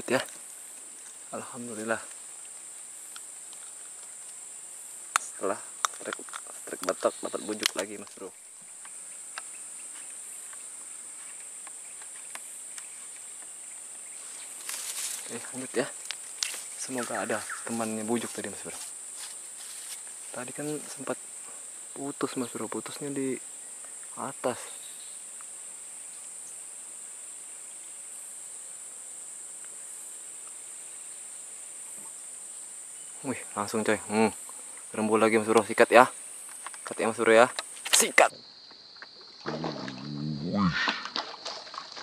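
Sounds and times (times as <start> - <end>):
insects droning chorus: 0.0 - 42.0.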